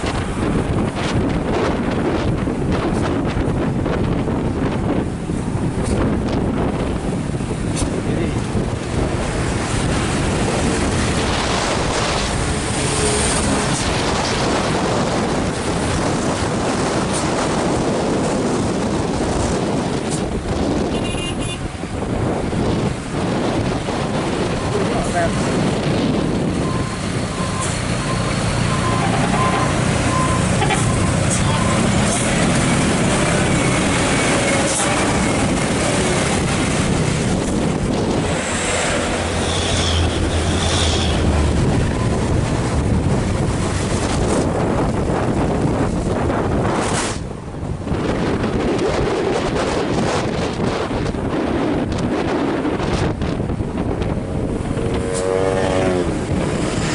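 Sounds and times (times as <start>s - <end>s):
heavy road traffic rumble: 0.0s - 56.9s
heavy truck engine under load: 0.0s - 56.9s
wind buffeting microphone: 0.0s - 56.9s.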